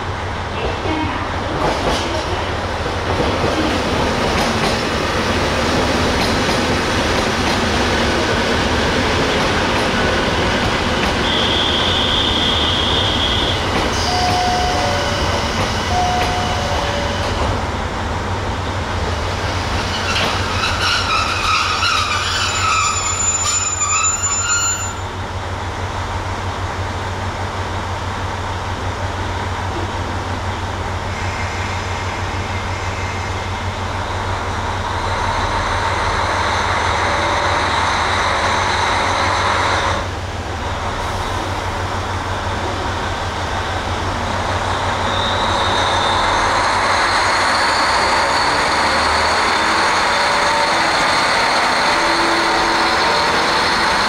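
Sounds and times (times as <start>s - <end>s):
diesel railcar engine: 0.0s - 54.0s.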